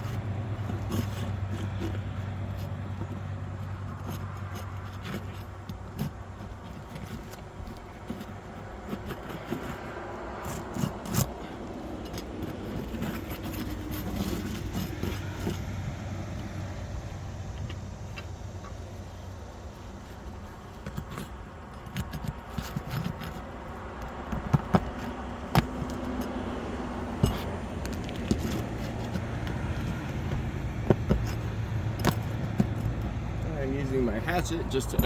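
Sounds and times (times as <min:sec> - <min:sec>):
hand tools scraping on shingles: 0:00.0 - 0:35.0.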